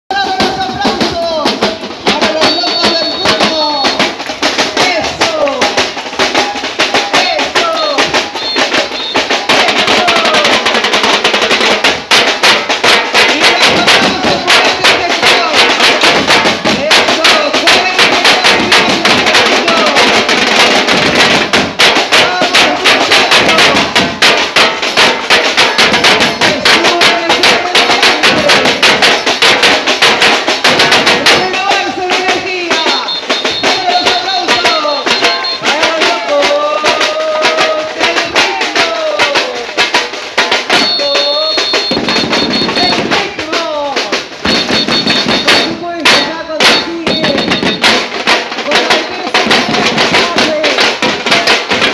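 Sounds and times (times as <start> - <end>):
marching snare drums: 0.1 - 51.9.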